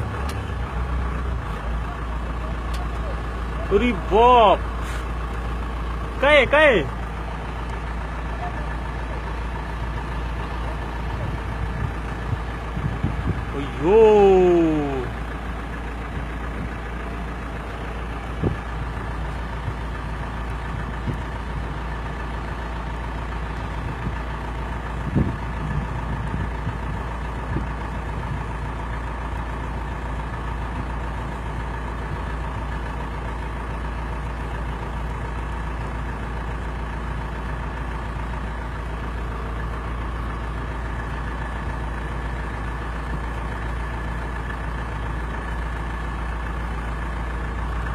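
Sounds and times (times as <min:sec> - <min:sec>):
engine drone: 0:00.0 - 0:47.9.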